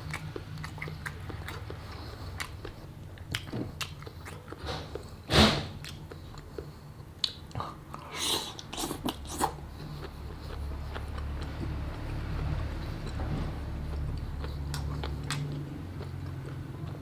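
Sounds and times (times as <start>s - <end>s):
wet biting and chewing: 0.0s - 17.0s.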